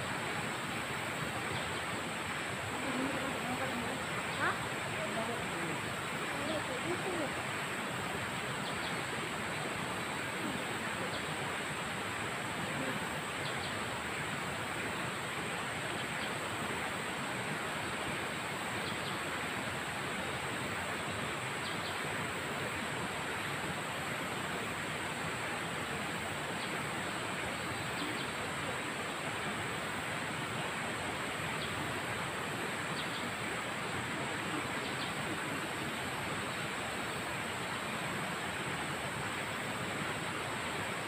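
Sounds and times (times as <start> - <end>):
flowing river water: 0.0 - 41.0.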